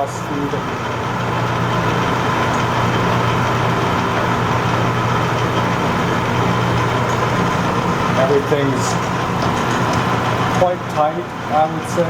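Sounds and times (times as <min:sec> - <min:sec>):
metal lathe humming and whining: 0:00.0 - 0:12.0.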